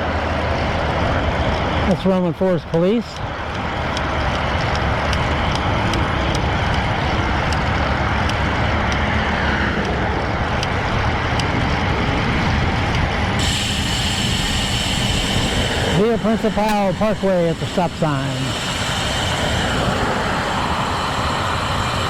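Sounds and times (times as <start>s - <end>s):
road traffic: 0.0s - 22.0s
wind rush on microphone: 3.2s - 22.0s.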